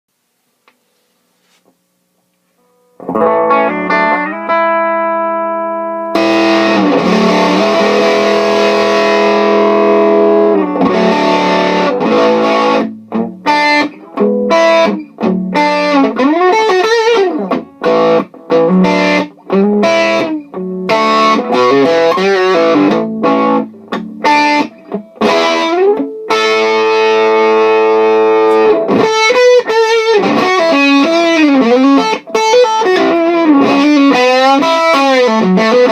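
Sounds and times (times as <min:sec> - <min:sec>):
fuzzed electric guitar: 0:01.4 - 0:35.9.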